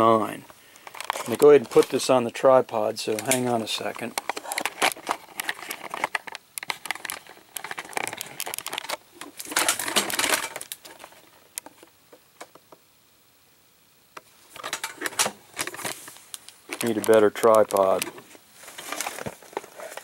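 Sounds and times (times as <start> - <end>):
rustling: 0.0 - 2.3, 3.1 - 11.9, 14.3 - 20.0.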